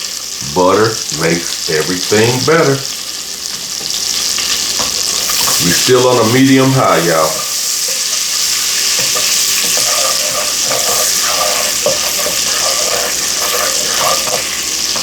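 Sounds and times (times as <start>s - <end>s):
butter sizzling in a pot: 0.0s - 15.0s.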